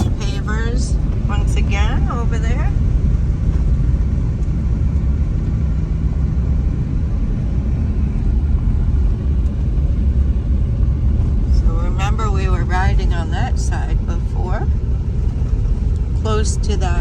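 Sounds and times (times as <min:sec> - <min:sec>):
car driving on rough road: 0:00.0 - 0:17.0.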